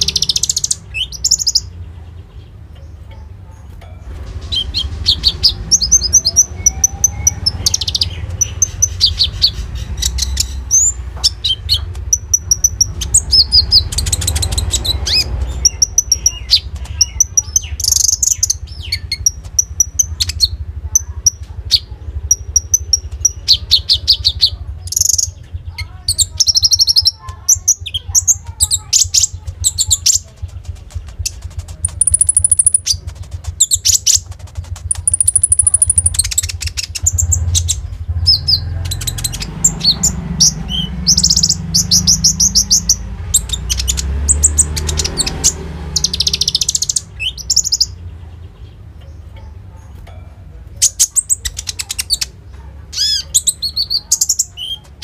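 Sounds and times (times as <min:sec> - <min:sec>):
sunbird singing chirps and trills: 0:00.0 - 0:55.0.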